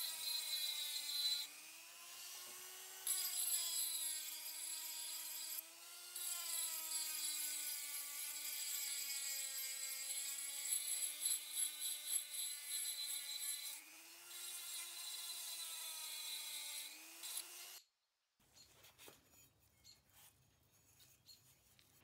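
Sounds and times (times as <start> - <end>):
rotary tool grinding metal: 0.0 - 17.9.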